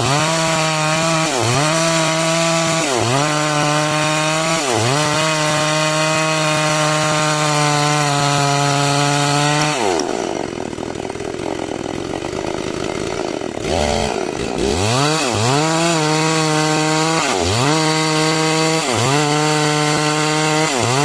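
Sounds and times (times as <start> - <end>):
chainsaw cutting log: 0.0 - 21.0.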